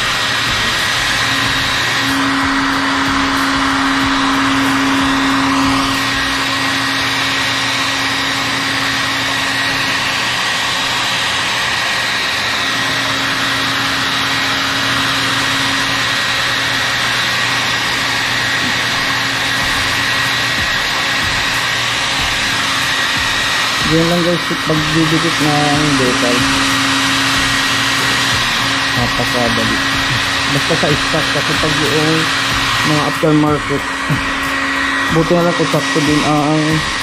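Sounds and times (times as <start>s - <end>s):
hair dryer blowing: 0.0s - 37.0s.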